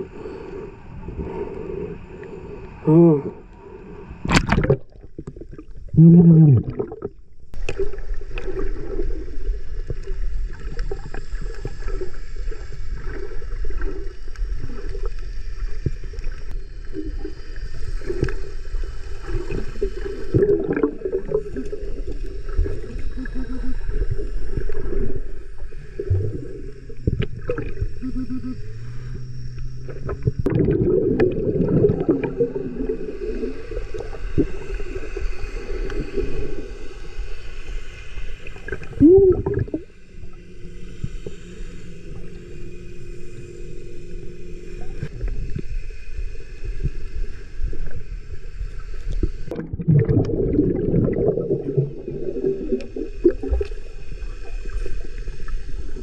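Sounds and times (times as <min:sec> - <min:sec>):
muffled underwater rushing: 0:03.6 - 0:56.0
underwater gurgling: 0:03.6 - 0:56.0.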